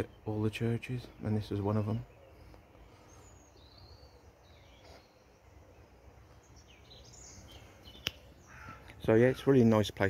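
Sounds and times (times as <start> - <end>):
faint bird chirps: 0.0 - 9.9.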